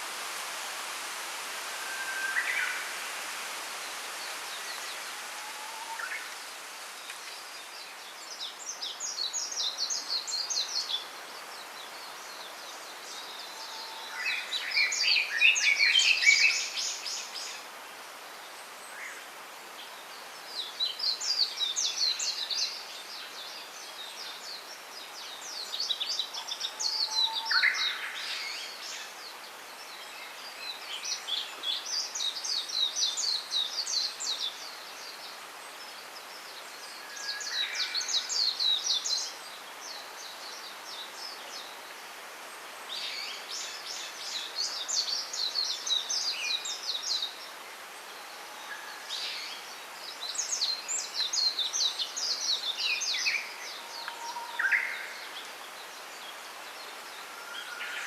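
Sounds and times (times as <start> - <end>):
wind through bamboo leaves: 0.0 - 58.0.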